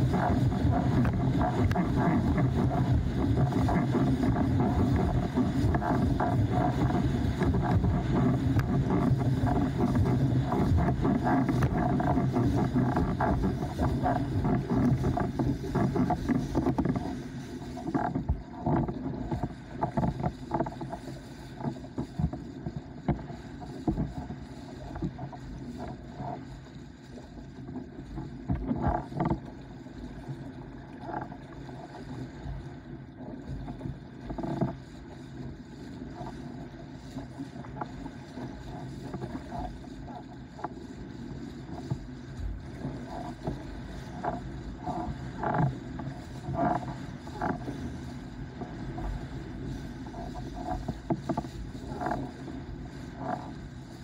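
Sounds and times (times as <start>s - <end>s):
hull slapping waves: 0.0s - 54.0s
rush of wind and water: 0.0s - 54.0s.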